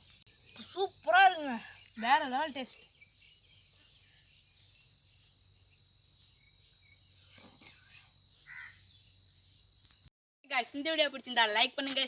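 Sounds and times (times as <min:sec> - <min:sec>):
crickets chirring: 0:00.0 - 0:10.1.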